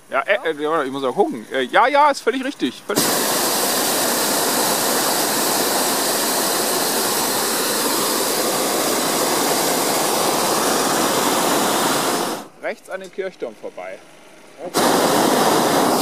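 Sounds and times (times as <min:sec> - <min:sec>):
propane burner rushing hiss: 0:00.0 - 0:16.0.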